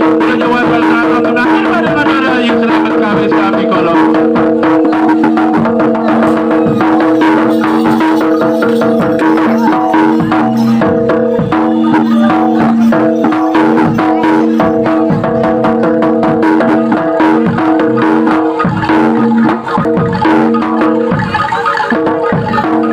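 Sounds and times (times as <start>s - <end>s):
drums and clicking percussion: 0.0s - 22.9s
wavering melody line: 0.0s - 22.9s.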